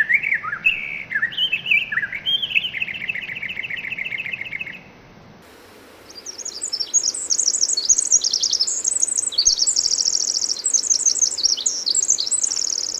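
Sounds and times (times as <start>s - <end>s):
wren singing trills: 0.0s - 4.9s, 6.0s - 12.9s.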